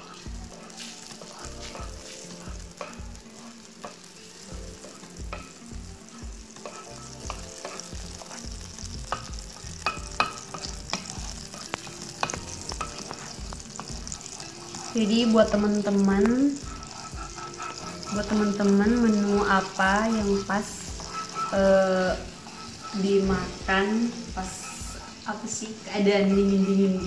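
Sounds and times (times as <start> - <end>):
wooden spatula scraping and tapping pan: 0.0 - 25.6
margarine sizzling in a frying pan: 0.0 - 27.0.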